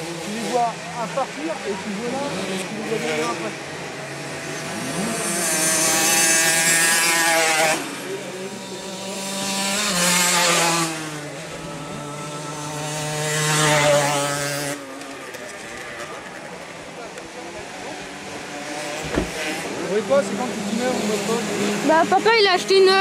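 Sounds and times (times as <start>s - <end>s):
motocross bikes revving past: 0.0s - 23.0s.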